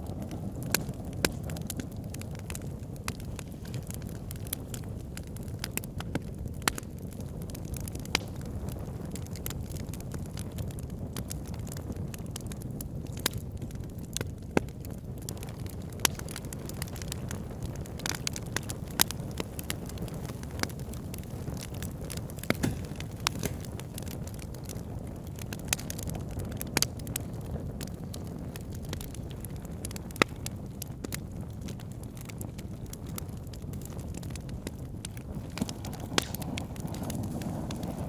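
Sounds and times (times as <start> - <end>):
fire crackling and popping: 0.0 - 38.0
fire rumbling: 0.0 - 38.0.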